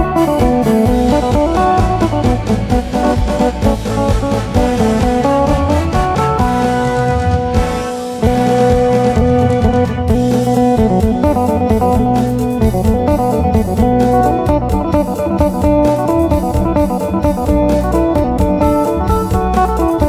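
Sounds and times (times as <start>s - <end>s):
electric lute fast melody: 0.0s - 20.0s.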